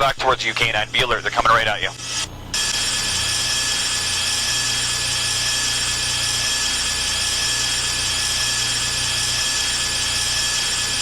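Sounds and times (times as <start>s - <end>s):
helicopter turbine and rotors: 0.0s - 11.0s.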